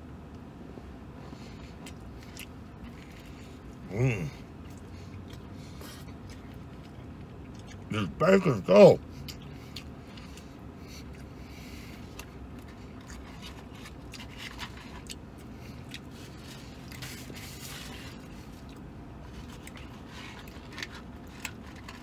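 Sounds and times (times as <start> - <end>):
low steady hum: 0.0 - 22.0
man chewing: 1.1 - 8.2, 9.1 - 22.0.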